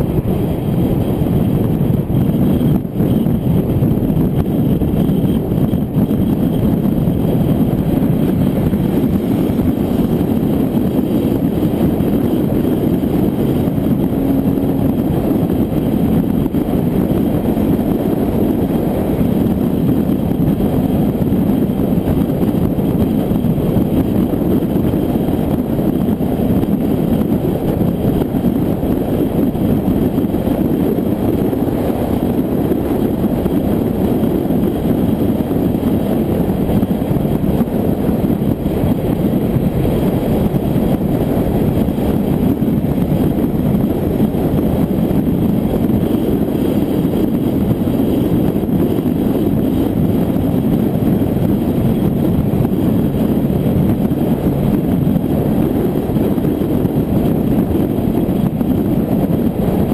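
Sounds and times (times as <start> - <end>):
tyre and road noise: 0.0 - 59.9
wind buffeting microphone: 0.0 - 59.9.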